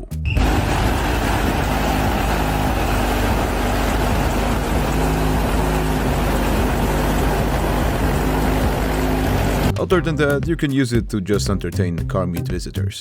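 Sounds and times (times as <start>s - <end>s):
bass-heavy music from subwoofers: 0.0s - 13.0s.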